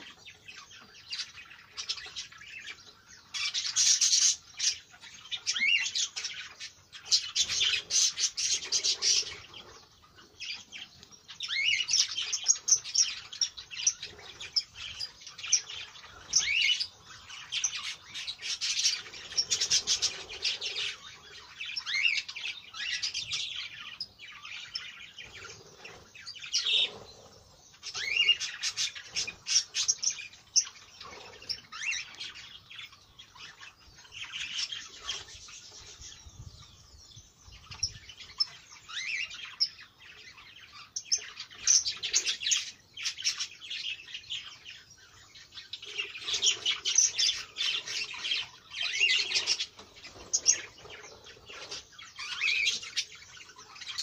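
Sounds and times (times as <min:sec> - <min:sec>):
parakeets chattering and chirping: 0:00.0 - 0:54.0.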